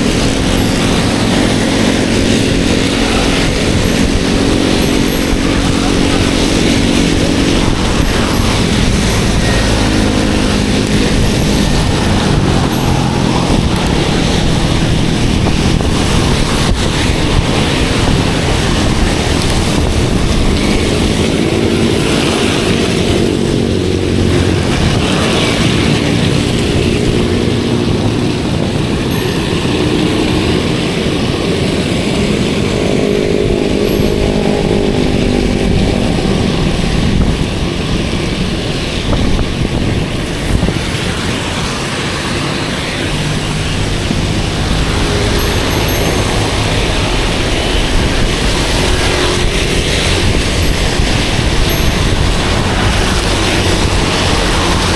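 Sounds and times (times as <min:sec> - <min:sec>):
passing vehicle engines humming: 0:00.0 - 0:54.9
rain: 0:00.0 - 0:54.9
wet bicycle tyres on road: 0:00.0 - 0:54.9
wind on microphone: 0:00.0 - 0:54.9.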